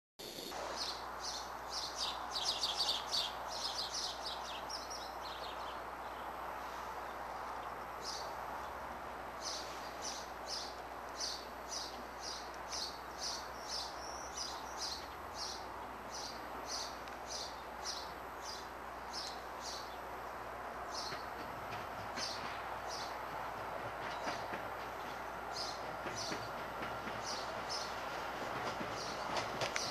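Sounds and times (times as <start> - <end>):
songbirds chirping: 0.3 - 29.9.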